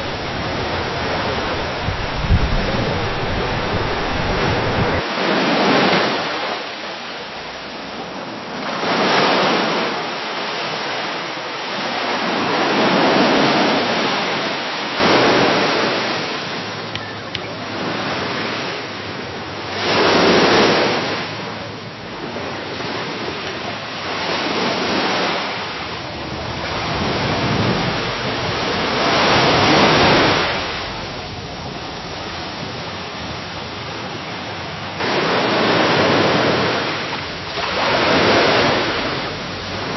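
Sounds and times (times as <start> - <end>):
gentle waves washing against a dock: 0.0 - 39.9.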